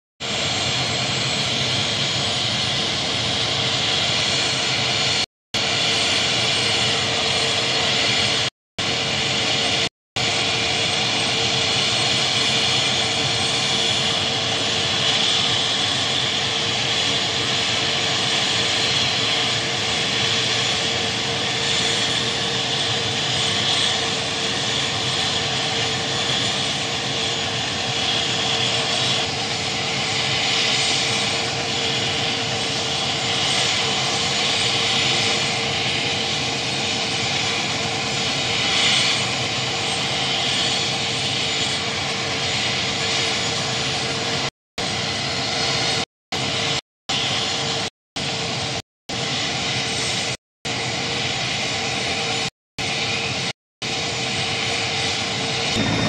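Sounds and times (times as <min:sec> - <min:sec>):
helicopter turbine engines whining: 0:00.2 - 0:56.0.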